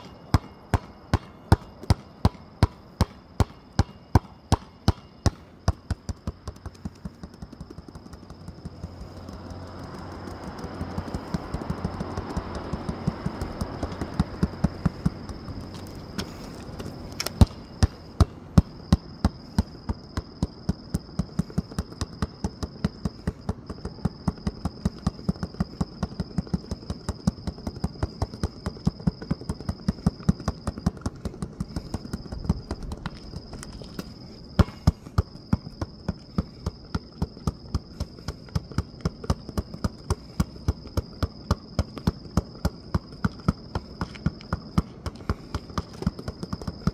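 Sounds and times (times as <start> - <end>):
basketball dribbling on asphalt: 0.0 - 46.9.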